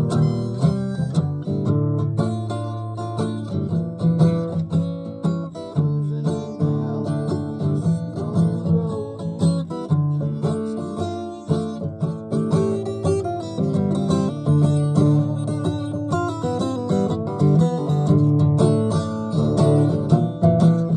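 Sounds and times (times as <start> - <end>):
acoustic guitar playing: 0.0 - 20.9.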